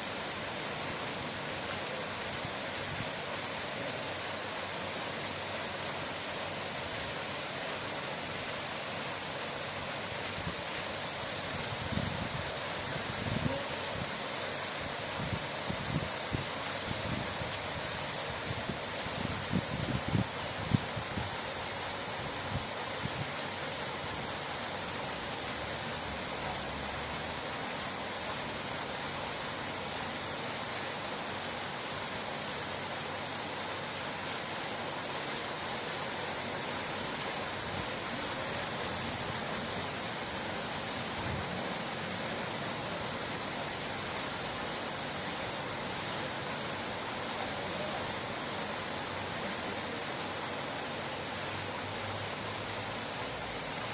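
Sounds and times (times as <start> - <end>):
running water rushing: 0.0 - 53.9.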